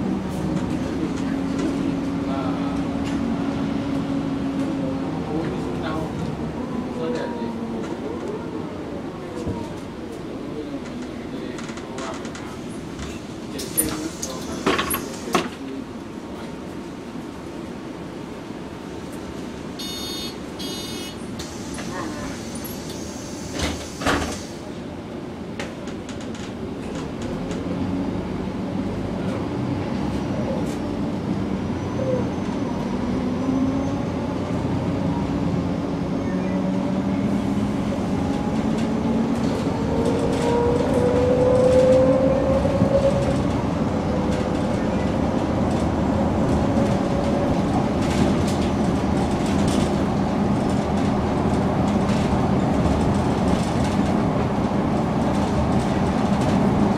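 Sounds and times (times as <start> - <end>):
bus engine accelerating: 0.0 - 56.9
road rumble: 0.0 - 56.9.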